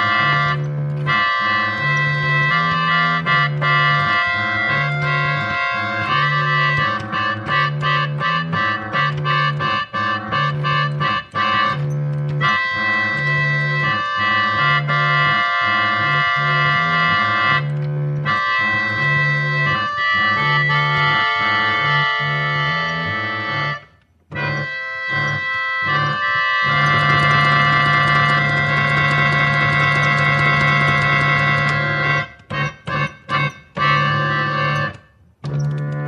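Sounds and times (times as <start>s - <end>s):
organ playing chords: 0.0s - 36.0s.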